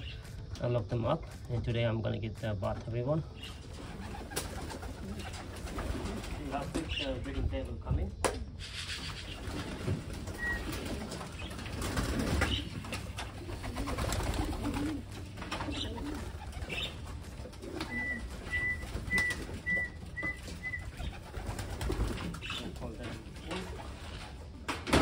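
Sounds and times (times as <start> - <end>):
pigeons cooing: 3.3 - 7.3, 8.6 - 24.7.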